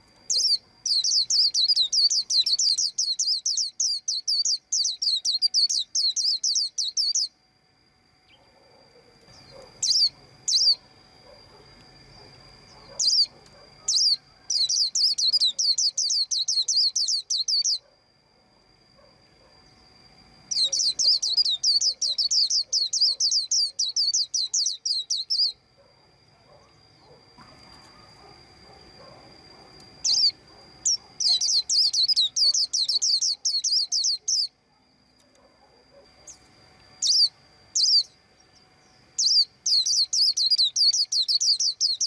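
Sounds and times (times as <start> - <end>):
faint high whine: 0.0 - 42.0
bird chirping: 0.3 - 7.4, 8.2 - 17.9, 20.5 - 34.6, 35.9 - 42.0.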